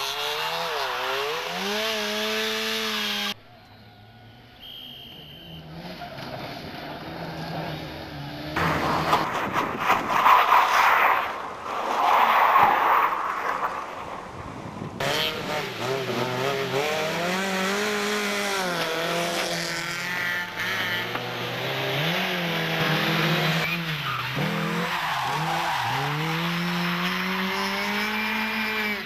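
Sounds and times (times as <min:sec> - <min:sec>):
car engine revving: 0:05.7 - 0:29.0.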